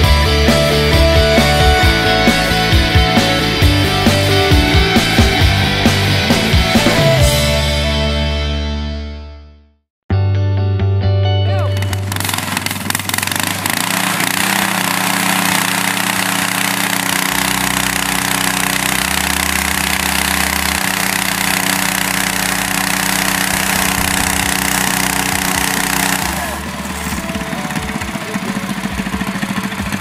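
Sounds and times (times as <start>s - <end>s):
mini bike engine running: 0.0s - 7.4s, 11.8s - 30.0s.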